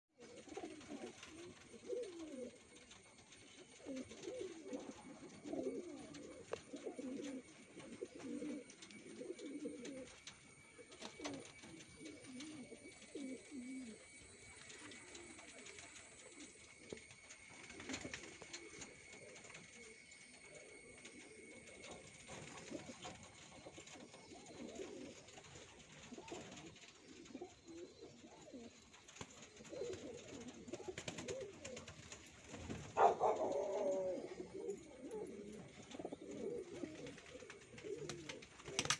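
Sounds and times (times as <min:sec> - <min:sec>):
faint high whine: 0:00.2 - 0:38.9
pigeons cooing: 0:00.2 - 0:38.9.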